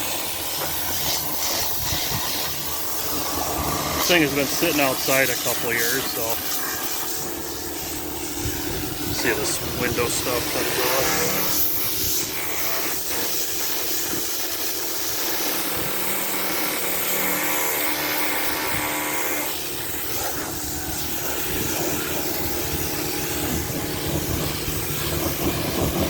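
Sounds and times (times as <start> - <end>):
pressure washer engine humming: 0.0 - 26.0
water jet spraying on metal: 0.0 - 26.0.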